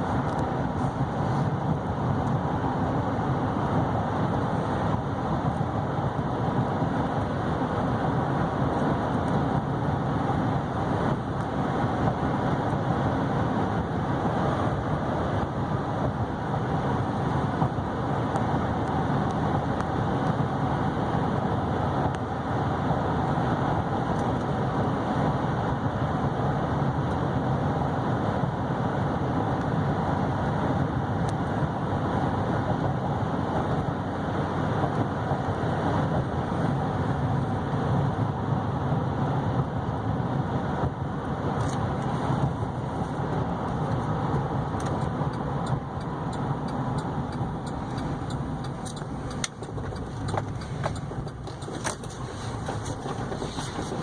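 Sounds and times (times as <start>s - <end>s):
engine hum: 0.0s - 54.0s
tyre and wind noise: 0.0s - 54.0s.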